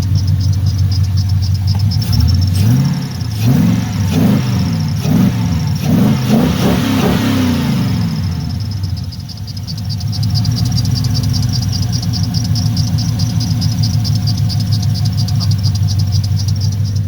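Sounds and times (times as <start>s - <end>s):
squeaky belt chirping: 0.0s - 6.1s, 8.4s - 17.0s
engine idling: 0.0s - 17.0s.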